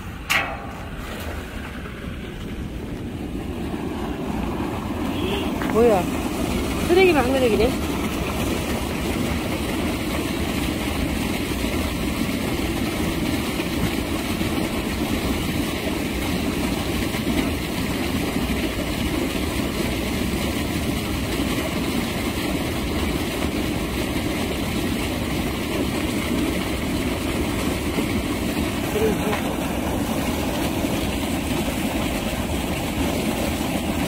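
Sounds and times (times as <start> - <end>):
water gushing from outfall: 0.0 - 34.0.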